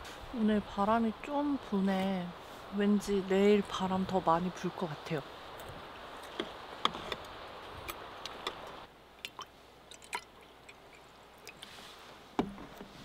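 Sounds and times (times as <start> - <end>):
wind hiss: 0.0 - 13.0.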